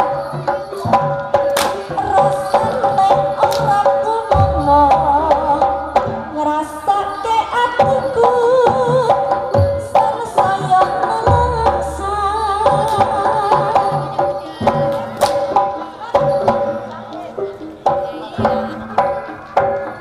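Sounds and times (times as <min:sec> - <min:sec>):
ringing pitched percussion notes: 0:00.0 - 0:20.0.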